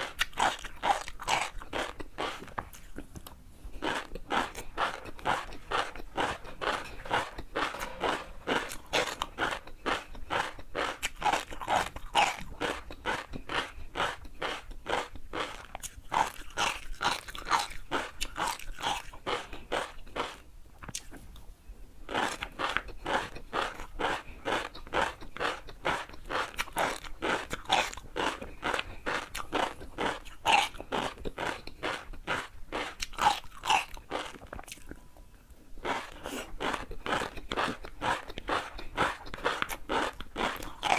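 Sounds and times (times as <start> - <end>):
crunchy food being chewed: 0.0 - 40.9.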